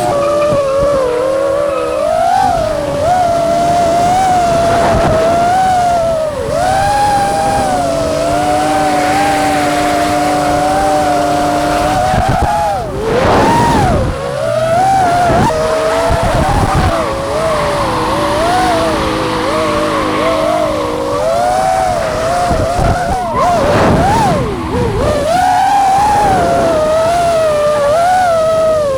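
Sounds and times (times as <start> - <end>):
tyres squealing: 0.0 - 28.9.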